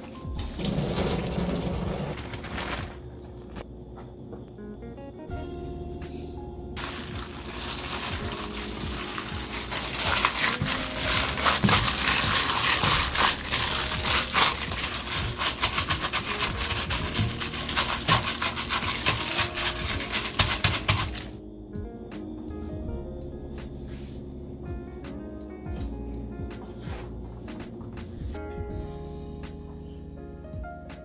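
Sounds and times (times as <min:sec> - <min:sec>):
soft background music: 0:00.0 - 0:02.2, 0:04.5 - 0:31.0.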